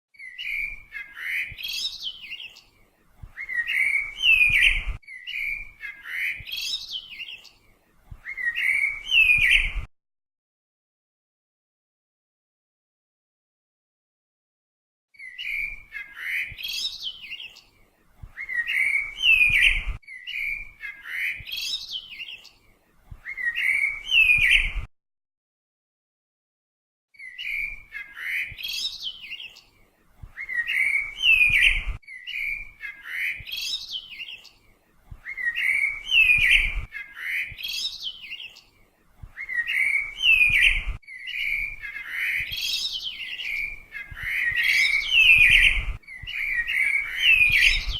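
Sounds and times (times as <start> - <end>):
bird chirping: 0.2 - 9.9, 15.2 - 24.9, 27.2 - 47.9.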